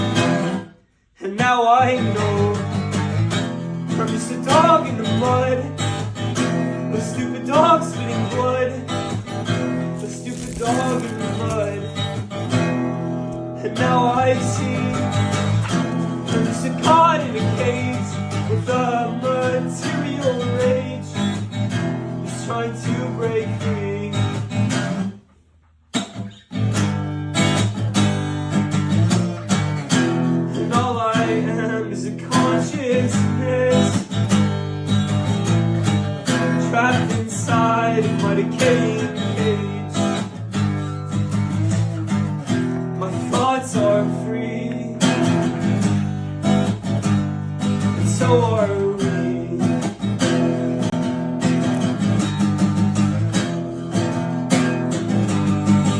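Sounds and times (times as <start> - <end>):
guitar strumming chords: 2.2 - 25.1, 26.0 - 55.9.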